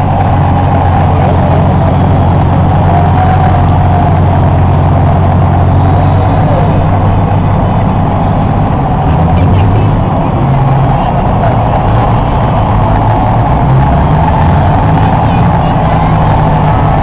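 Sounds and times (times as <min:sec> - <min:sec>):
crowd noise: 0:00.0 - 0:17.0
heavy vehicle engines rumbling: 0:00.0 - 0:17.0.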